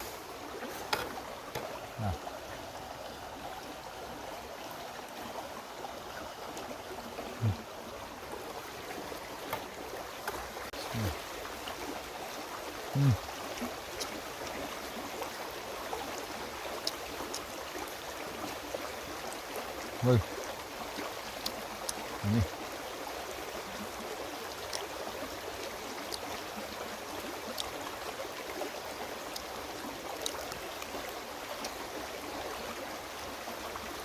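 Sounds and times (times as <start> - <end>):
stream flowing: 0.0 - 34.0.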